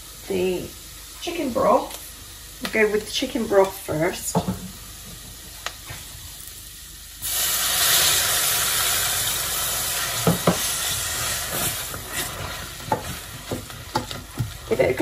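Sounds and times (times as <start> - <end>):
liquid hissing in a hot pan: 0.0 - 15.0.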